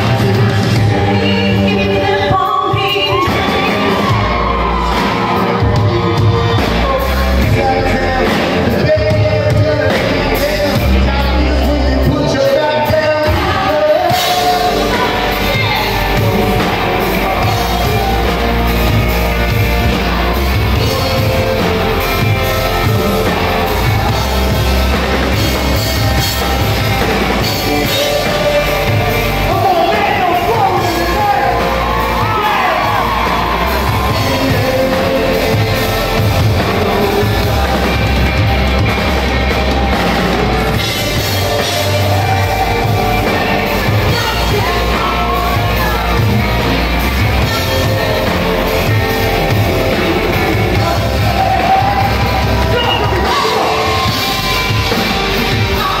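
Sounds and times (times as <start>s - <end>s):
man and woman singing: 0.0s - 38.9s, 40.7s - 56.0s
live rock band playing: 0.0s - 56.0s.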